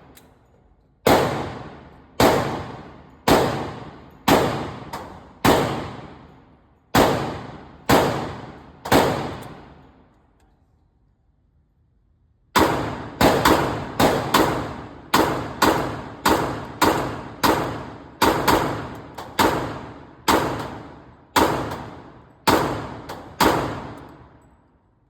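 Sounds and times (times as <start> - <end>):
pistol shots: 1.0 - 9.9, 12.6 - 24.4.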